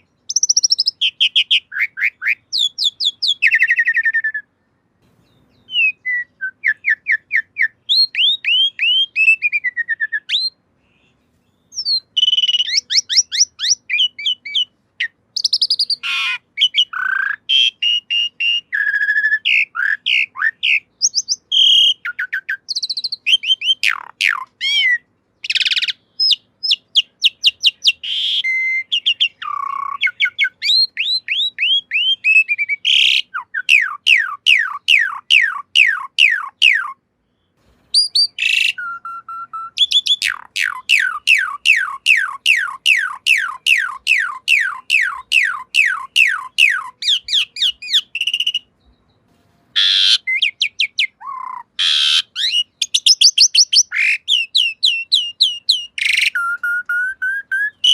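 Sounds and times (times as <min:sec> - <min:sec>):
starling singing chirps and whistles: 0:00.0 - 0:57.9.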